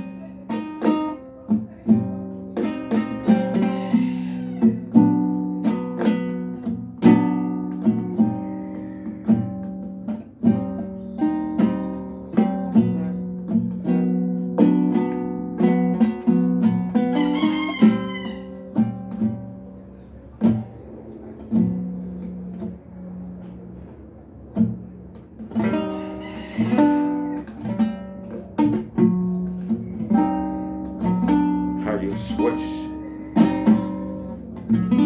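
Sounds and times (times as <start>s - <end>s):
guitar plucking and strumming: 0.0s - 35.0s.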